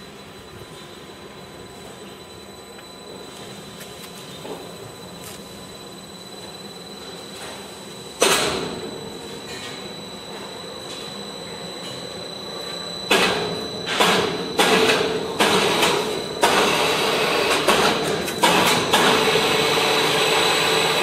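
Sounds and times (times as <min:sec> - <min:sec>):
machinery humming with high whine: 0:00.0 - 0:21.0.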